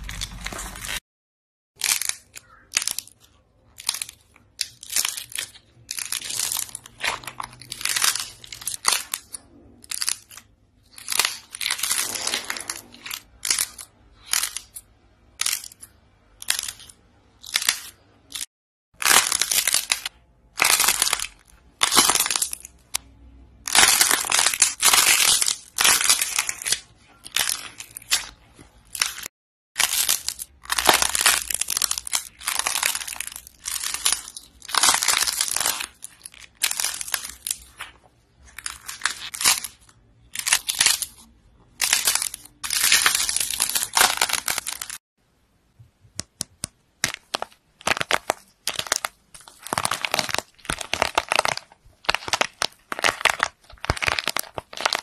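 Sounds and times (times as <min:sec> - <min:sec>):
dried coating crackling and crunching: 0:00.0 - 0:01.0, 0:01.8 - 0:45.0, 0:47.0 - 0:55.0.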